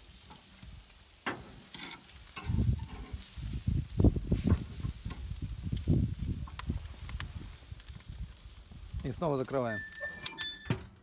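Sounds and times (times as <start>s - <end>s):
meat sizzling on a grill: 0.0s - 10.4s.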